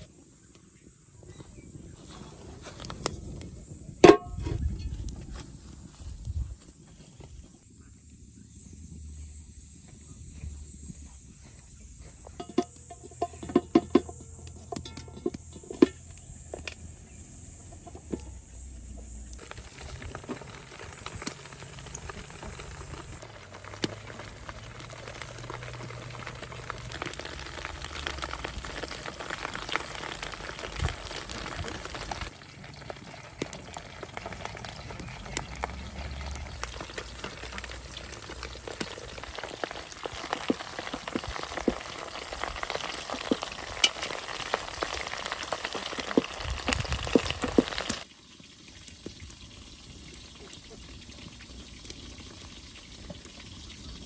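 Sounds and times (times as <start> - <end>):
meat sizzling and popping: 0.0 - 0.9, 11.2 - 54.0.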